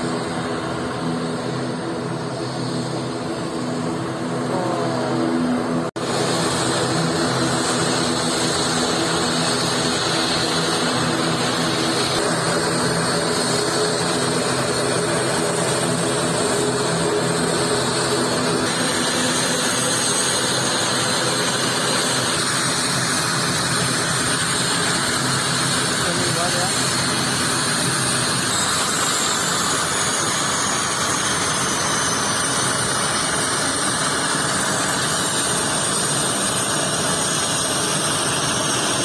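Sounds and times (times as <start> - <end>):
turboprop engines droning: 0.0 - 39.0.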